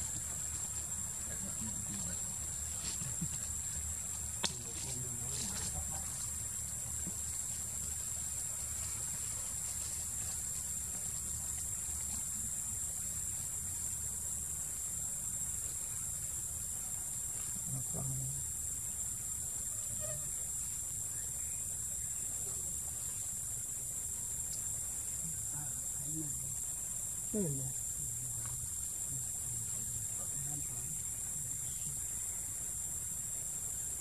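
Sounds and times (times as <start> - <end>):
forest insects droning: 0.0 - 34.0.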